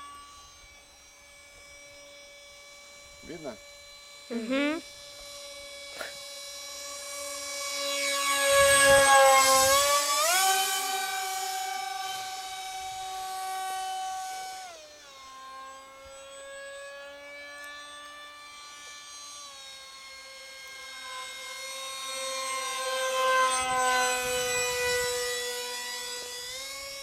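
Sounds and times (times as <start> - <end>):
model jet engine whine: 0.0 - 27.0.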